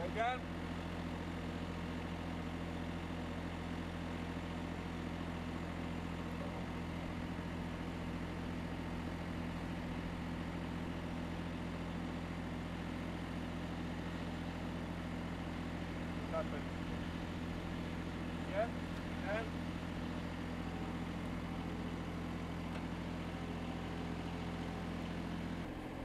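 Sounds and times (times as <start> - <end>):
small petrol engine idling: 0.0 - 26.0.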